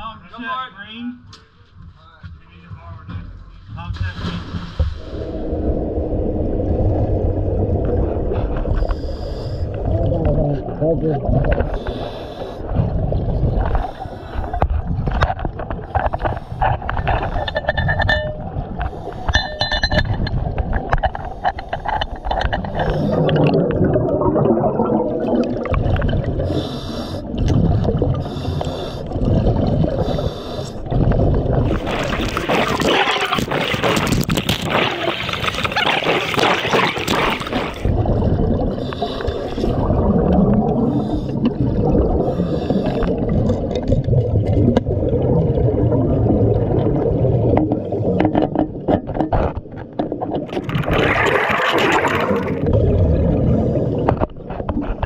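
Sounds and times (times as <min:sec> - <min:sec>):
underwater bubbling from diver: 0:04.7 - 0:55.0.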